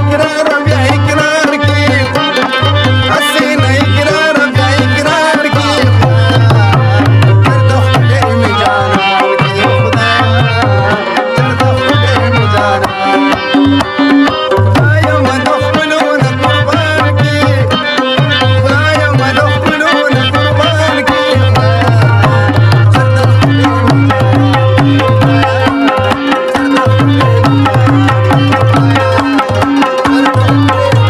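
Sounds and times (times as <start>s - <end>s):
harmonium: 0.0s - 31.0s
tabla rhythm: 0.0s - 31.0s.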